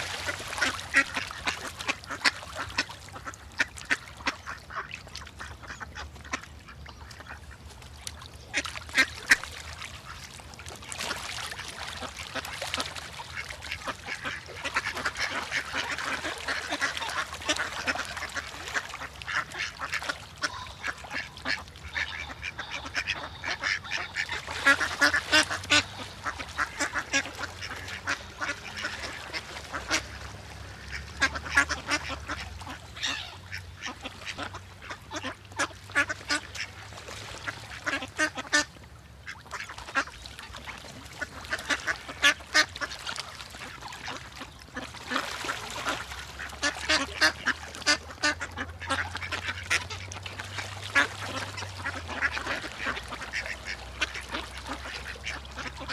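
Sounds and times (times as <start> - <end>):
ducks quacking: 0.0 - 7.7, 8.4 - 55.9.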